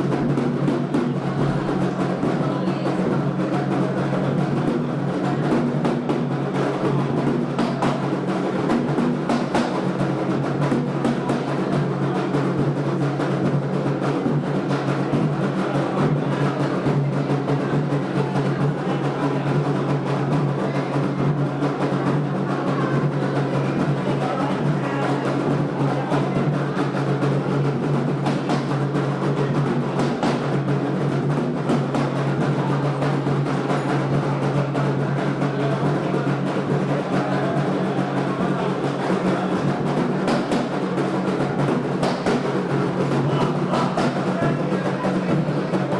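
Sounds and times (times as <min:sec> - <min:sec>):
hand drums playing rhythm: 0:00.0 - 0:45.9.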